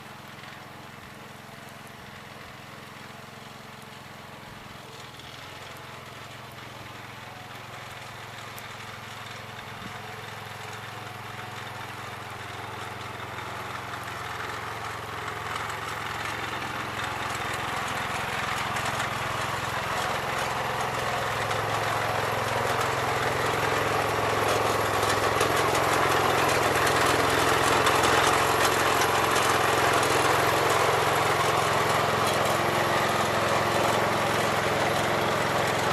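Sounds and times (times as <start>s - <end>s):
garden tractor engine running: 0.0s - 35.9s.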